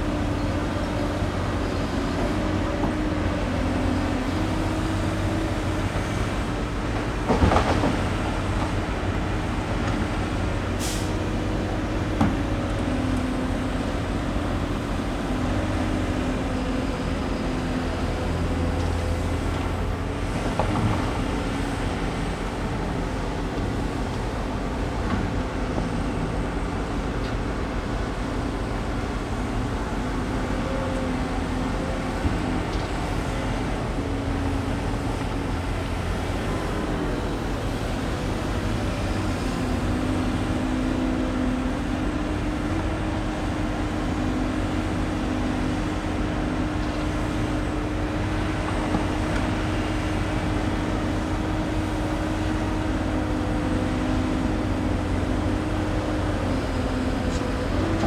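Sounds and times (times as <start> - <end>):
diesel excavator engines running: 0.0 - 58.0.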